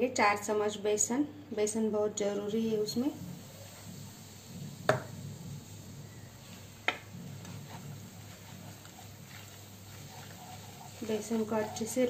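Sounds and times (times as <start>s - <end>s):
flour frying in oil: 2.0s - 12.0s.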